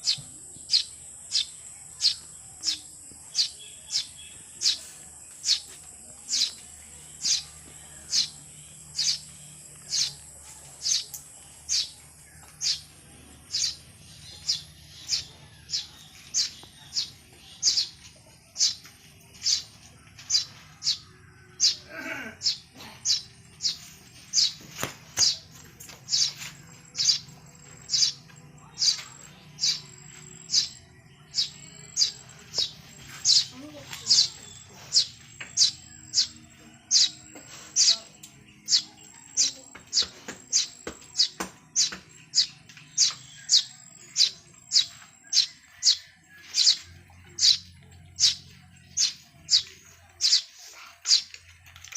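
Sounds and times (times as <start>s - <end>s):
bird high sharp chirp: 0.0s - 5.7s, 6.3s - 12.0s, 12.6s - 12.9s, 13.5s - 18.0s, 19.4s - 25.5s, 26.1s - 51.3s.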